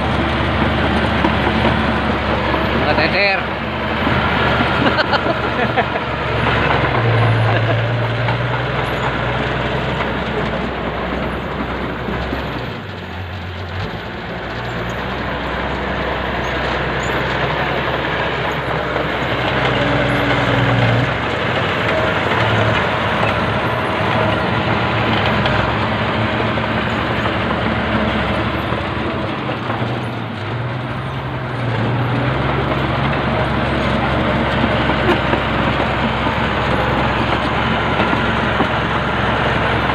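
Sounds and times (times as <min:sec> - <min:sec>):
bulldozer diesel engine: 0:00.0 - 0:39.9
crawler tracks clattering: 0:00.0 - 0:39.9.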